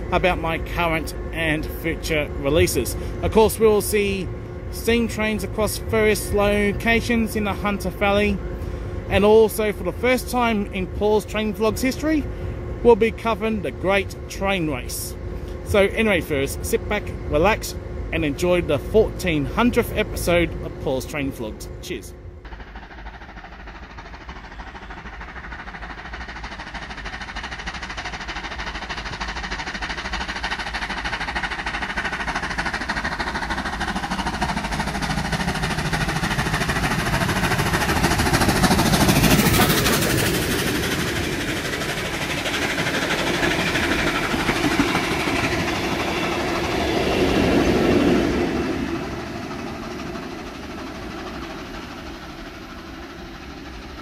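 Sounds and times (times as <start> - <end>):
steam locomotive passing: 0.0 - 54.0.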